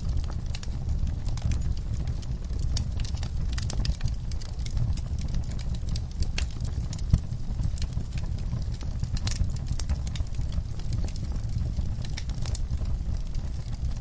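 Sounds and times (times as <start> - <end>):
fire crackling with snaps: 0.0 - 14.0.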